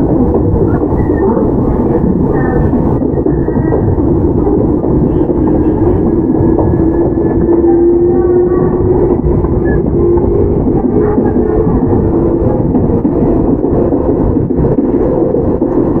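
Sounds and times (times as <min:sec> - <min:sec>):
low train motor whine: 0:00.0 - 0:16.0
wheels rumbling on rail: 0:00.0 - 0:16.0.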